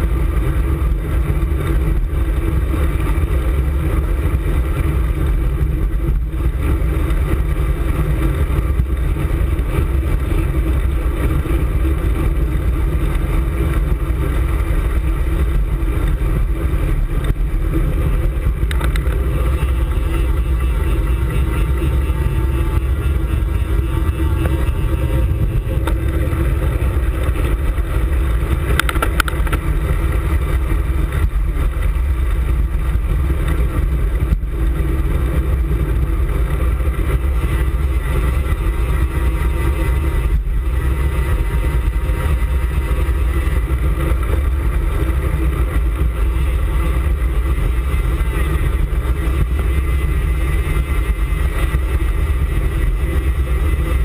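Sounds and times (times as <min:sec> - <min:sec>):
bike road noise: 0:00.0 - 0:54.0
wind noise on microphone: 0:00.0 - 0:54.0.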